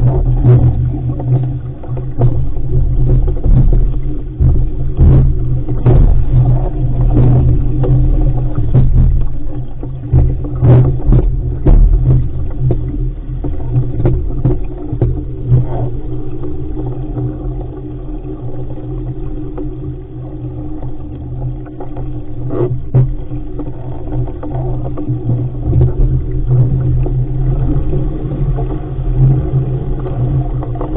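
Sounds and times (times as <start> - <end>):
water rushing along hull: 0.0 - 30.9
waves slapping: 0.0 - 30.9.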